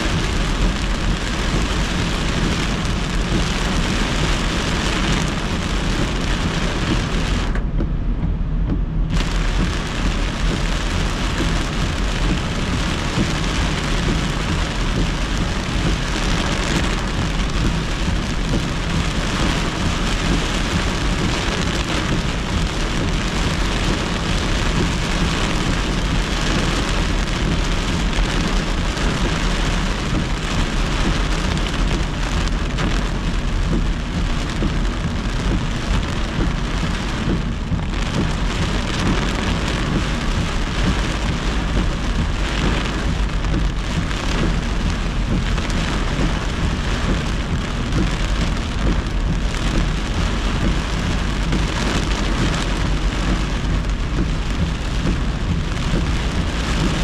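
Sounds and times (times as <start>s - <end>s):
car rumbling on wet road: 0.0s - 57.0s
heavy rain on car windshield: 0.0s - 57.0s.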